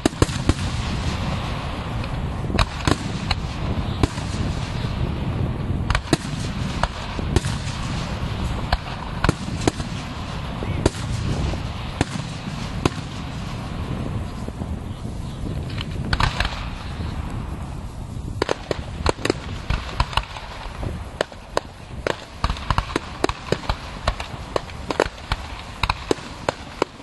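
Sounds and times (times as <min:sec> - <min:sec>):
fireworks bursting: 0:00.0 - 0:27.0
low rumble: 0:00.0 - 0:27.0.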